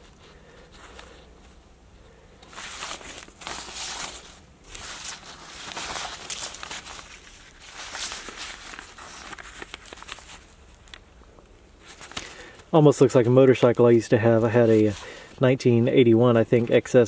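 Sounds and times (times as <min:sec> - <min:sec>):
newspaper rustling and crinkling: 0:00.0 - 0:01.6, 0:02.4 - 0:11.1, 0:11.8 - 0:15.4.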